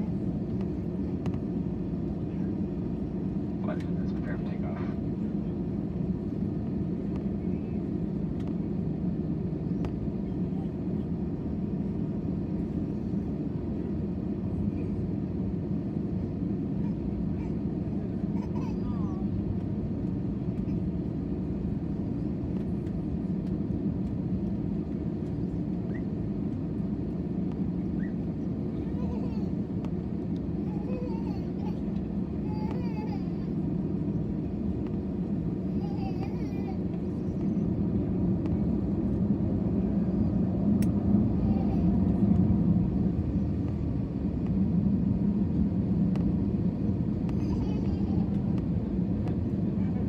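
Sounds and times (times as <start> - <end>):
jet airliner cabin rumble: 0.0 - 50.0.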